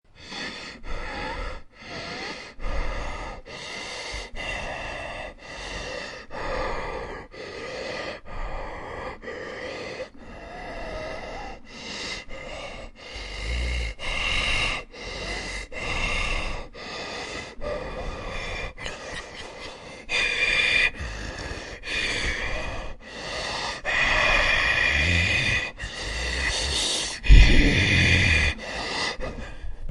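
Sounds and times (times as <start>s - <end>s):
person breathing heavily: 0.1s - 29.9s.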